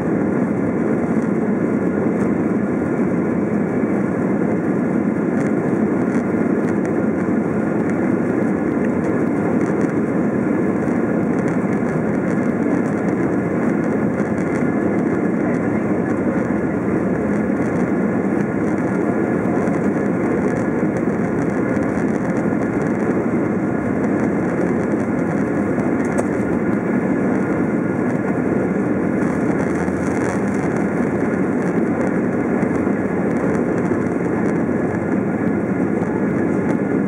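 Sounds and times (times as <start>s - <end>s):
jet engine and cabin noise: 0.0s - 37.0s.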